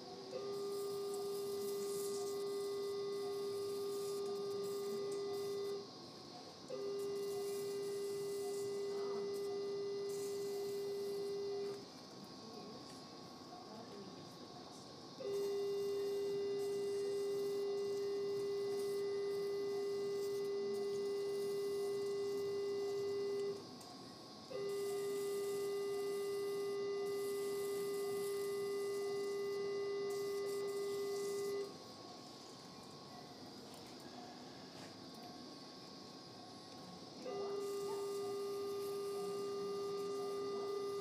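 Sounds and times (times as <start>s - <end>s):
steady mid-pitched activation tone: 0.0s - 41.0s.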